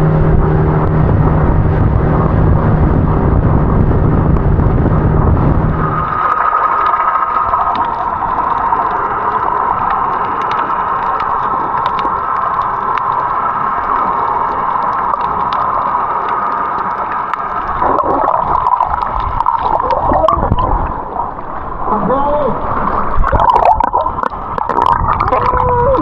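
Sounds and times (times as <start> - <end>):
water gurgling and bubbling: 0.0 - 26.0
water rushing: 0.0 - 26.0.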